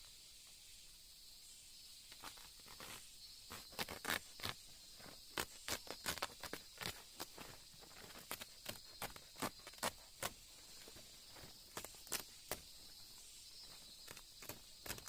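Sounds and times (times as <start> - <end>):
high insect chorus: 0.0 - 15.0
dry crackles and rustles: 2.1 - 15.0.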